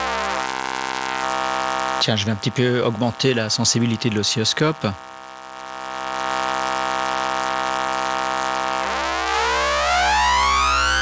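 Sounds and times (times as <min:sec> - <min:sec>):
buzzy synth drone: 0:00.0 - 0:11.0.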